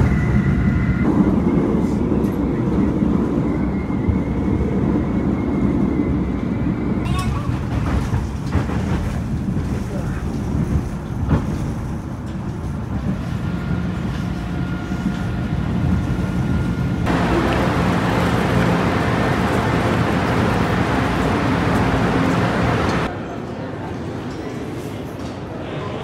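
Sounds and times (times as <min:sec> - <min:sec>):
train rumbling on track: 0:00.0 - 0:25.5.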